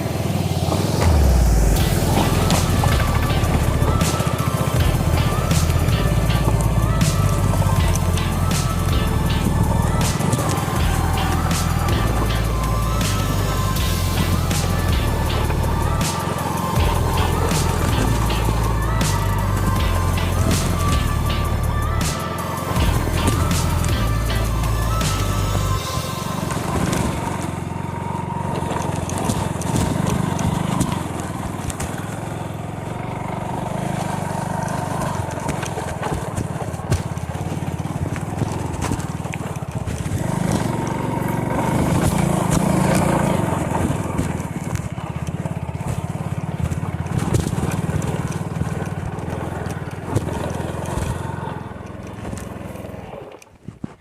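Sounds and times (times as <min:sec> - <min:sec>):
small motorcycle engine under load: 0:00.0 - 0:54.0.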